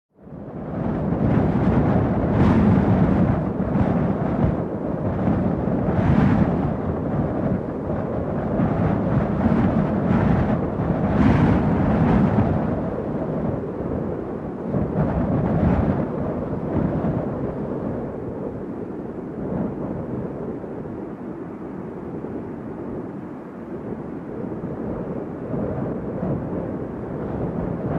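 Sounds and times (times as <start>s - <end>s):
strong wind blowing in gusts: 0.2s - 27.9s.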